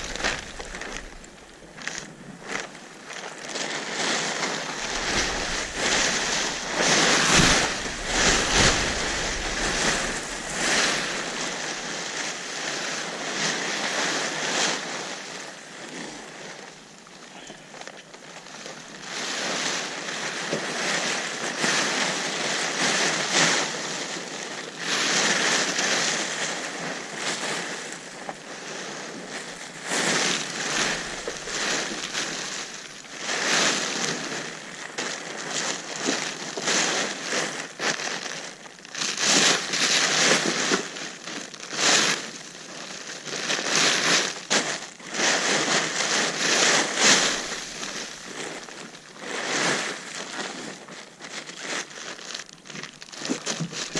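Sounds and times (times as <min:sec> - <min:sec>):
plastic tarp rustling: 0:00.0 - 0:53.9.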